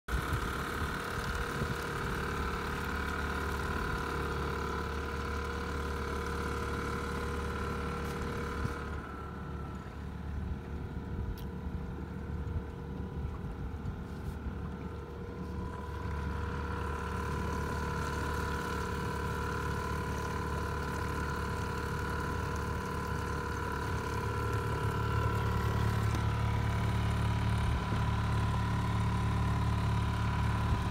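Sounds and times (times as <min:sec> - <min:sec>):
outboard motor running: 0:00.1 - 0:30.9.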